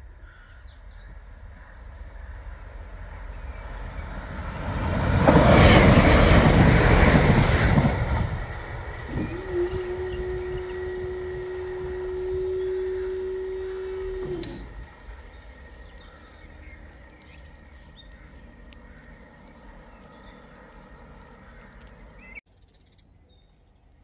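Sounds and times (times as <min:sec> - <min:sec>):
train passing rumble: 0:00.0 - 0:22.4.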